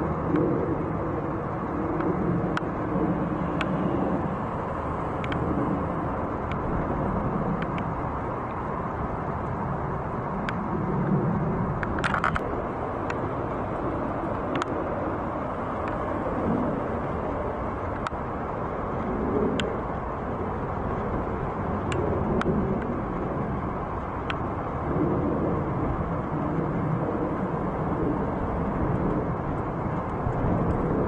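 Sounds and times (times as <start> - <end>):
distant engines rumbling: 0.0 - 31.0.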